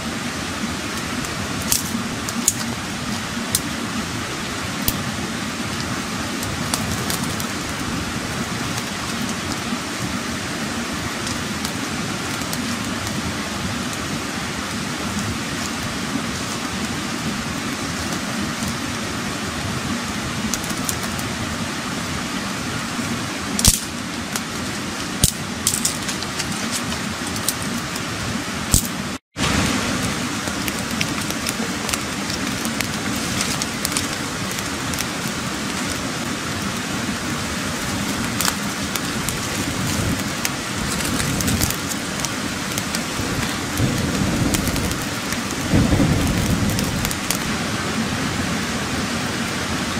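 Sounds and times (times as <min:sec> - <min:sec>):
campfire crackling: 0:00.0 - 0:49.9
steady rushing hiss: 0:00.0 - 0:49.9
fire snapping and popping: 0:00.5 - 0:21.4, 0:23.5 - 0:47.6.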